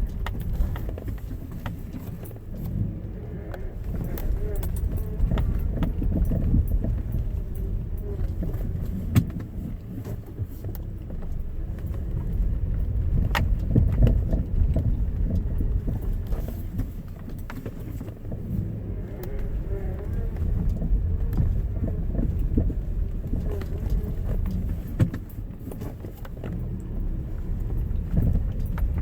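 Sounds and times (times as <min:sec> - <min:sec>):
car engine low rumble: 0:00.0 - 0:29.0
engine knocking and clicking: 0:00.0 - 0:29.0.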